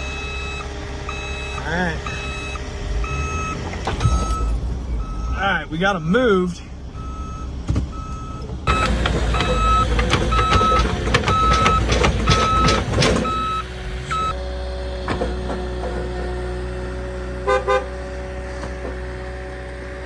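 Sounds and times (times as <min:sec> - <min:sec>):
truck engine running: 0:00.0 - 0:20.0
truck reversing alarm beeping: 0:00.0 - 0:20.0.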